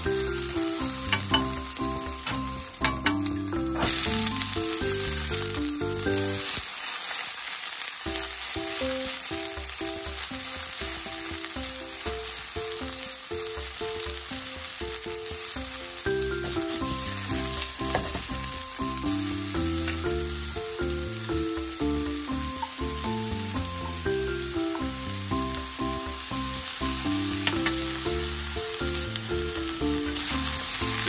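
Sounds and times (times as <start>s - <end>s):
background music: 0.0s - 6.6s, 8.1s - 31.0s
bean sprouts sizzling in oil: 0.0s - 31.0s
chopsticks stirring in pan: 0.0s - 31.0s.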